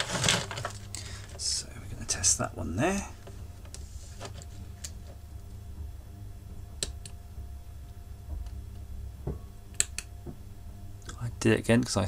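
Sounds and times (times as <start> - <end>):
low hum: 0.0 - 11.9.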